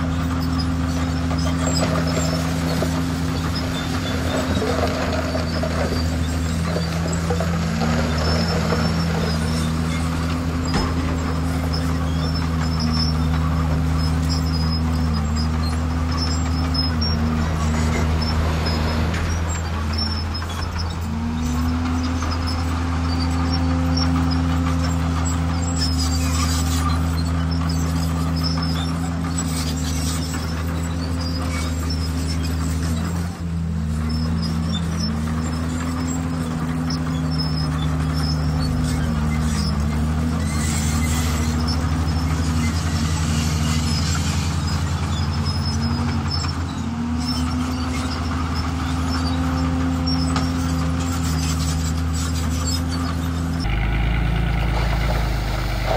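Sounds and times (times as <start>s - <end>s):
heavy machinery diesel engine: 0.0s - 55.9s.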